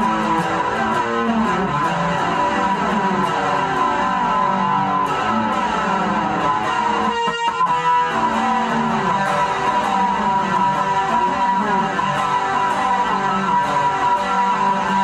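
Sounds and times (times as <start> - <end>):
guitar playing picked notes: 0.0 - 15.0.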